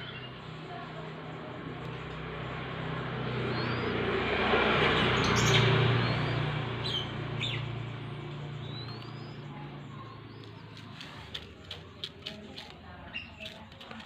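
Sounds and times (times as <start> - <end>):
birds chirping: 0.0 - 14.0
motor vehicle passing: 0.0 - 14.0.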